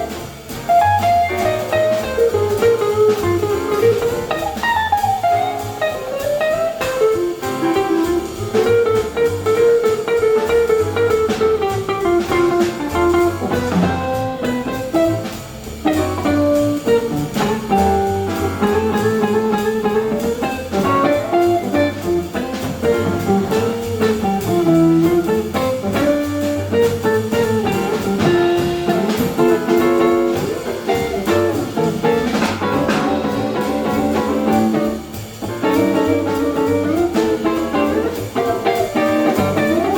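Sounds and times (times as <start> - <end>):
guitar: 0.0 - 39.9
jazz combo playing: 0.0 - 39.9.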